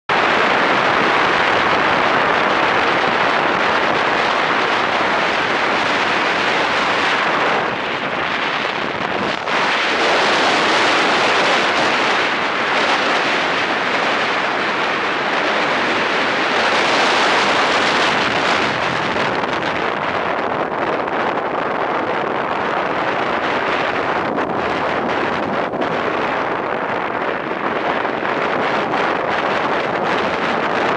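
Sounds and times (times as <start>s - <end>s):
wind buffeting microphone: 0.1s - 30.9s.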